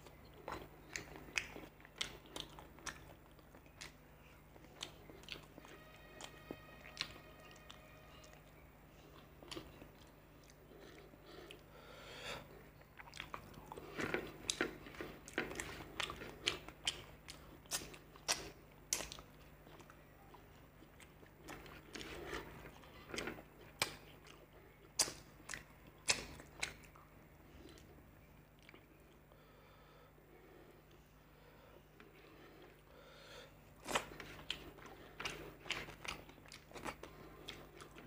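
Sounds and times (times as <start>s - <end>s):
person chewing and lip-smacking: 0.0s - 11.7s, 12.4s - 29.2s, 33.8s - 38.0s.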